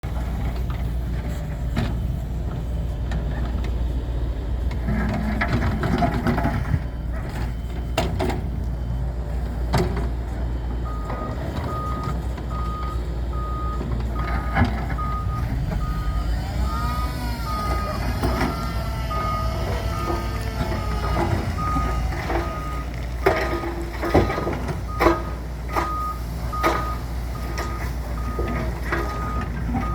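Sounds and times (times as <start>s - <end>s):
diesel truck engine rumbling: 0.0s - 29.9s
reversing alarm beeping: 5.0s - 29.9s.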